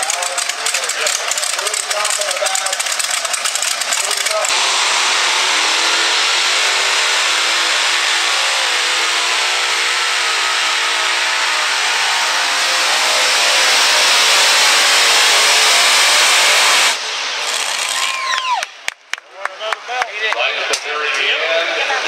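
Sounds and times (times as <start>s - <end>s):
pulling tractor engines roaring: 0.0s - 22.0s.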